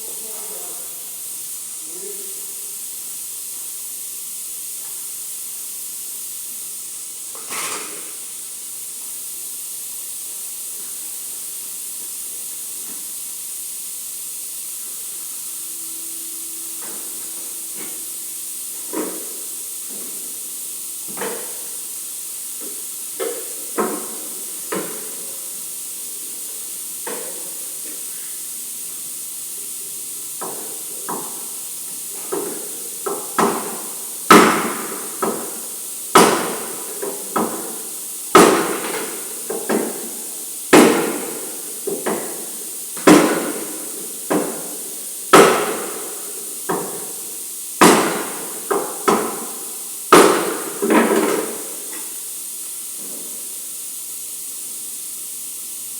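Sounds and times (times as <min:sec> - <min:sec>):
steady high hiss: 0:00.0 - 0:55.9.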